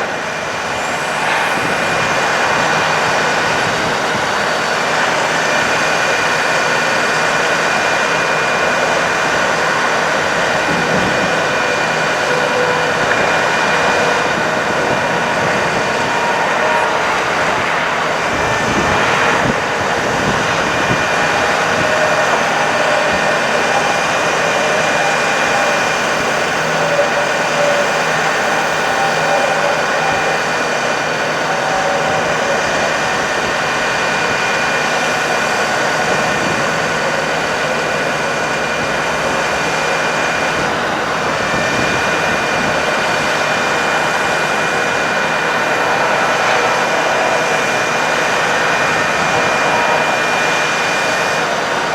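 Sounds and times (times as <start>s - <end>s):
hydraulic pump whining: 0.0s - 51.9s
truck engine running: 0.0s - 51.9s.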